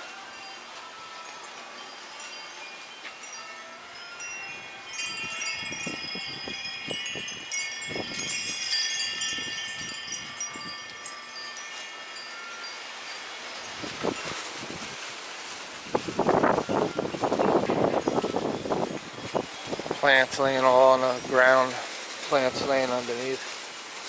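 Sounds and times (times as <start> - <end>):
wind chimes ringing: 0.0 - 24.0
gusting wind: 3.2 - 24.0.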